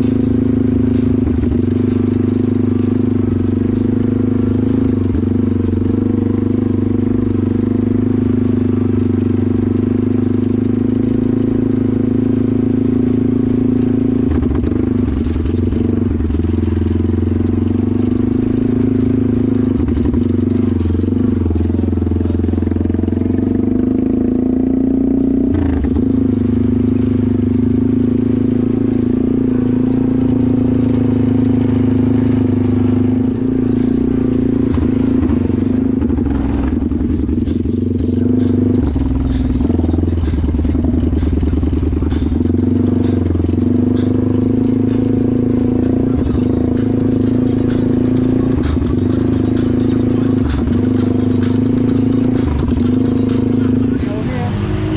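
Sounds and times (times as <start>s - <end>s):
off-road vehicle engine running: 0.0s - 54.9s.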